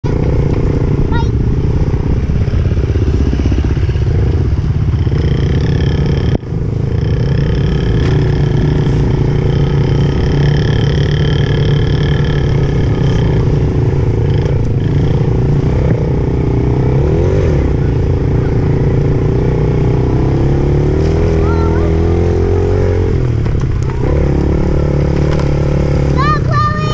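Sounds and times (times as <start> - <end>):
dirt bike engine running: 0.0 - 26.9.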